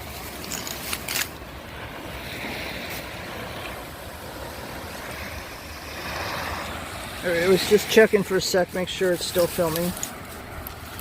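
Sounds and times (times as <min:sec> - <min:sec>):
surf washing on beach: 0:00.0 - 0:11.0
wind rumble on microphone: 0:00.0 - 0:11.0.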